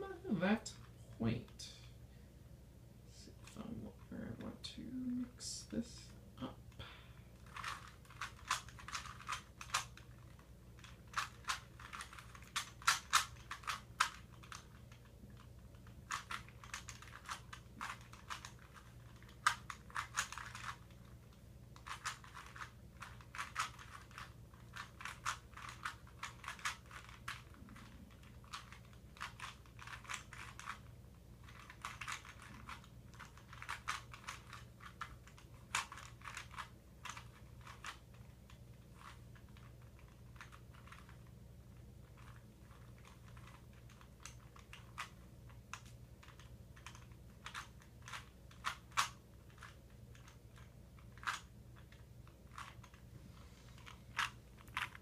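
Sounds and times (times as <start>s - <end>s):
puzzle cube clicking: 7.4s - 41.3s, 42.0s - 53.1s, 53.8s - 55.0s.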